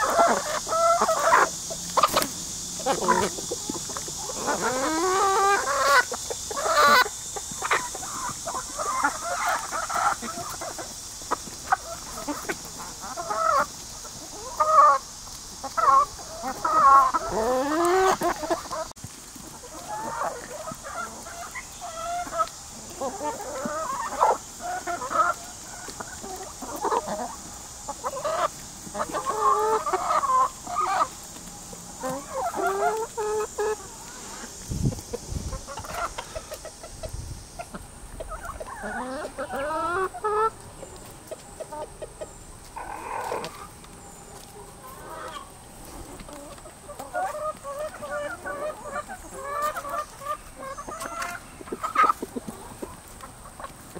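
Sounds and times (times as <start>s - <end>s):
hens clucking: 0.0s - 53.9s.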